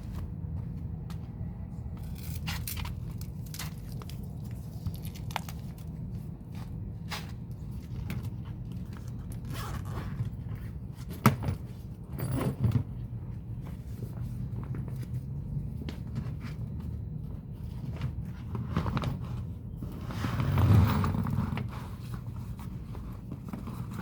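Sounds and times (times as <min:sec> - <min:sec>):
rustling and scraping handling noises: 0:00.0 - 0:24.0.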